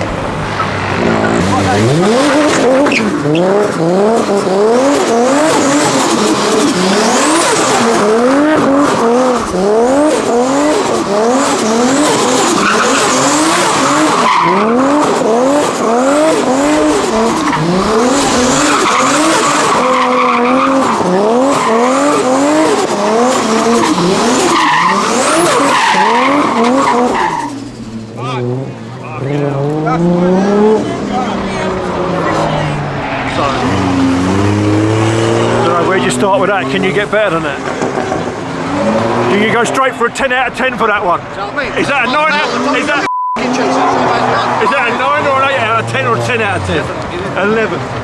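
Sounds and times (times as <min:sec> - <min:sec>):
tyres squealing: 0:00.0 - 0:37.7, 0:38.6 - 0:48.0
car engine revving: 0:00.0 - 0:48.0.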